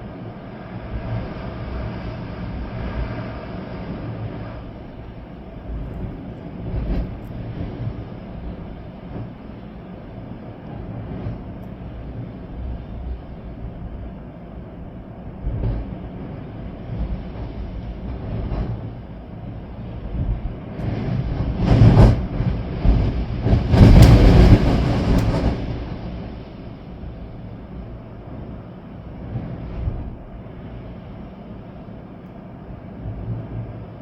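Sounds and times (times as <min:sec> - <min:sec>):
storm wind buffeting microphone: 0:00.0 - 0:34.0.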